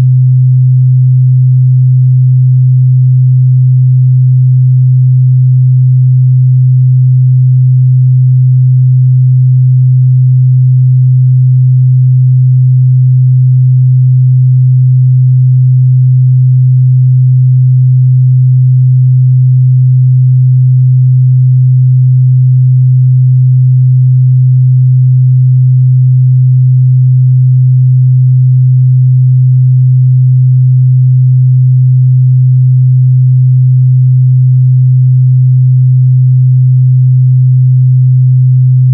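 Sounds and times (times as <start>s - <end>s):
low sine-wave test tone: 0.0s - 38.9s.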